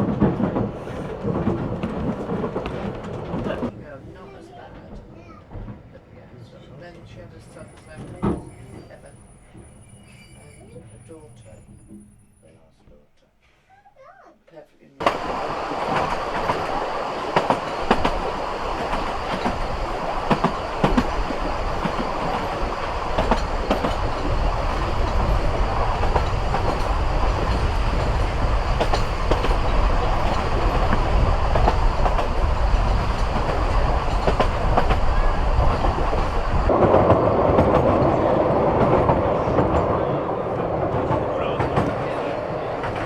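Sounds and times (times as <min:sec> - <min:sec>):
wheels clicking over rail joints: 0:00.0 - 0:09.0, 0:15.0 - 0:43.0
railway carriage rumbling: 0:00.0 - 0:13.2, 0:15.0 - 0:43.0.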